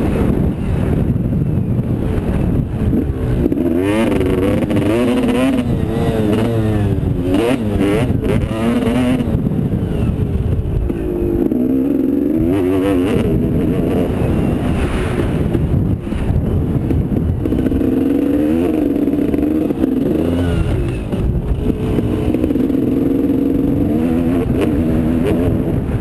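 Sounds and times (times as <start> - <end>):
motocross bike engines revving: 0.0 - 26.0
steady low rumble: 0.0 - 26.0.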